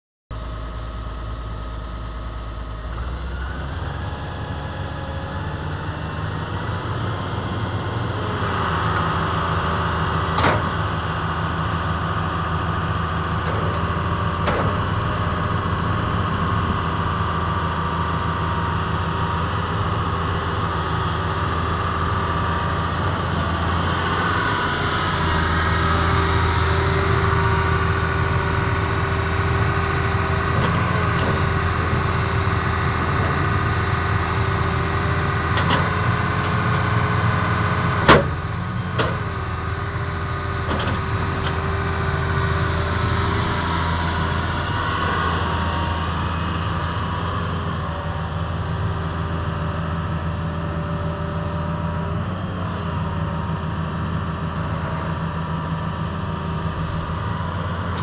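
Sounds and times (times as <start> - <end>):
excavator diesel engine running: 0.3 - 58.0
hydraulic whine: 0.4 - 58.0.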